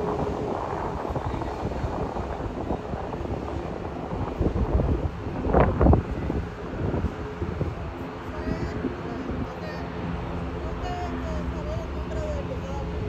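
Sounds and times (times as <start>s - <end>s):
jet engine rumble: 0.0s - 13.0s
wind buffeting microphone: 0.0s - 13.0s.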